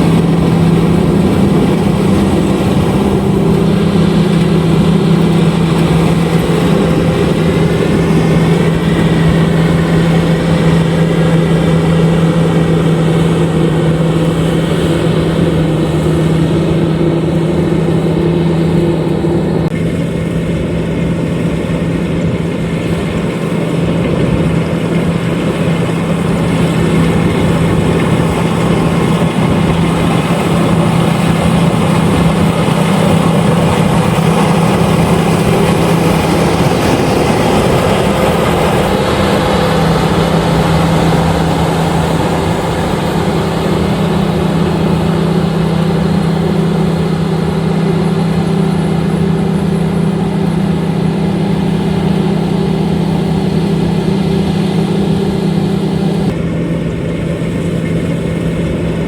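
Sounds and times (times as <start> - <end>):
combine harvester humming: 0.0 - 59.0.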